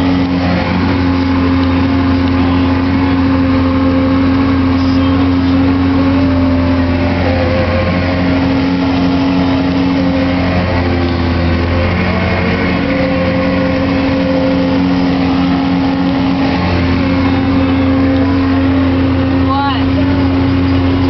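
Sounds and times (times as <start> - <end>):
outboard motor running: 0.0 - 21.0
water rushing in boat wake: 0.0 - 21.0.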